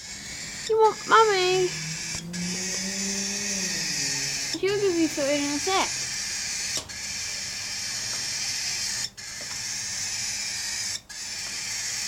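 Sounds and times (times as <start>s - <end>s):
bird harsh hissing calls: 0.0s - 12.0s.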